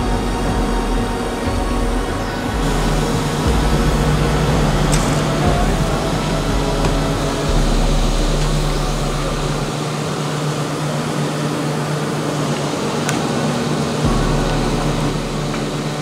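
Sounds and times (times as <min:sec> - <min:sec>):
crane mechanical noise: 0:00.0 - 0:16.0
diesel engine running: 0:00.0 - 0:16.0.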